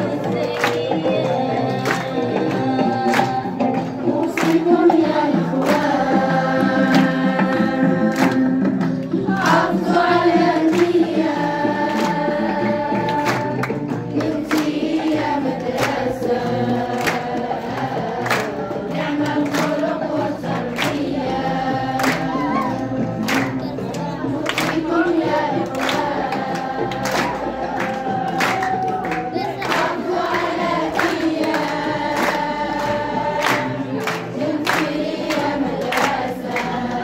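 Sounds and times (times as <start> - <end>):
group of voices singing: 0.0 - 37.0
steady percussion beat: 0.0 - 37.0.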